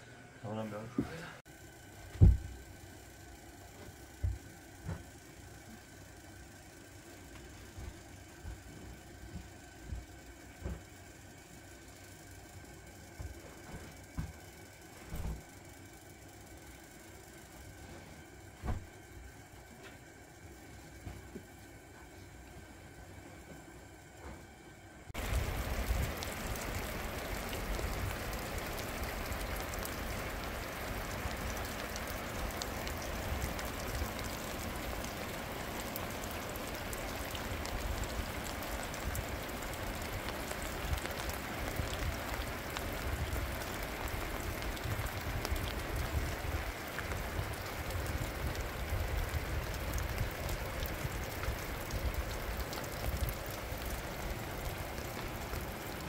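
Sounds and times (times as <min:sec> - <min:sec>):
steady rain falling: 0:00.6 - 0:56.0.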